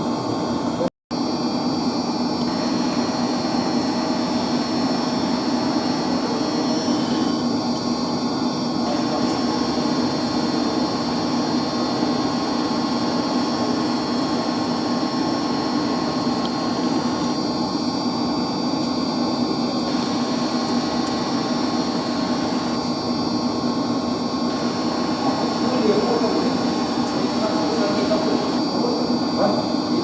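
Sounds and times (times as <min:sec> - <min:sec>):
high-pitched motor whines: 0:00.0 - 0:30.0
pump motors humming: 0:00.0 - 0:30.0.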